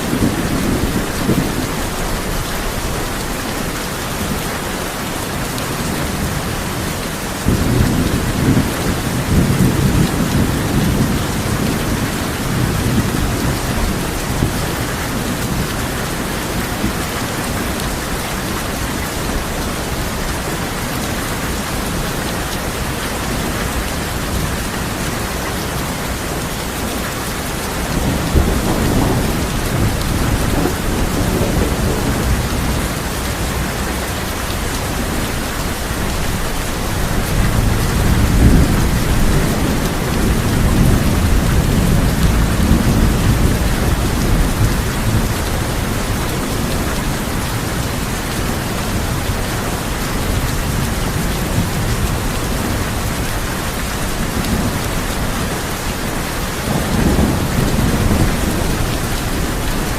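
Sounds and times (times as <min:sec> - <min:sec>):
thunder rumbling: 0:00.0 - 0:03.7, 0:05.8 - 0:59.9
heavy rain on a tin roof: 0:00.0 - 0:59.9.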